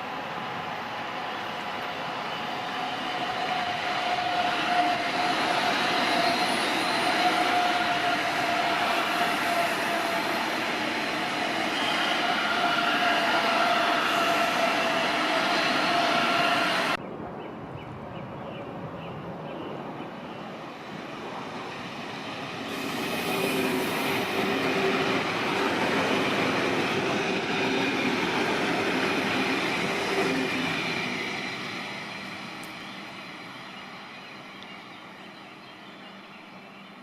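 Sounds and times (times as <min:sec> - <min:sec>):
high-speed train passing: 0:00.0 - 0:37.0
loud train sound: 0:00.0 - 0:37.0.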